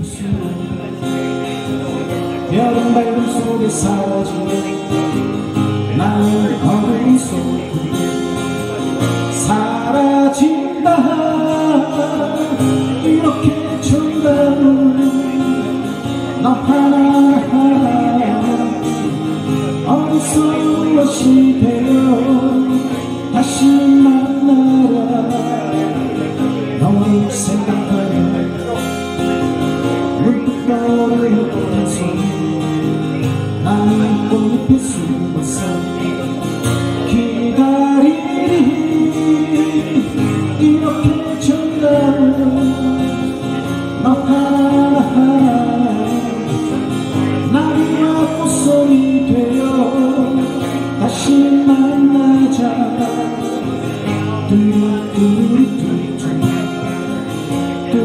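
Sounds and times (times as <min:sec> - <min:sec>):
acoustic guitars playing: 0:00.0 - 0:58.0
man singing: 0:00.0 - 0:58.0.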